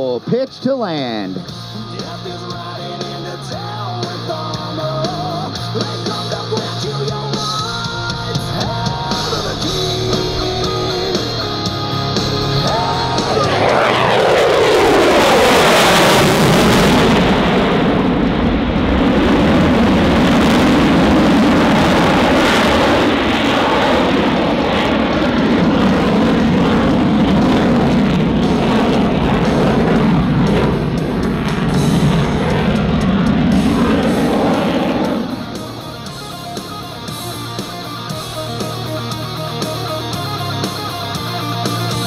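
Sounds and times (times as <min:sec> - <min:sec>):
rock music with guitar and drums: 0:00.0 - 0:42.0
jet engine roar passing: 0:05.0 - 0:42.0.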